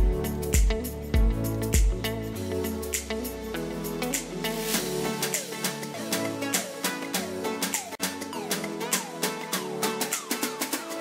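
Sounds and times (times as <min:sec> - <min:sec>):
plucked string music with beat: 0:00.0 - 0:11.0.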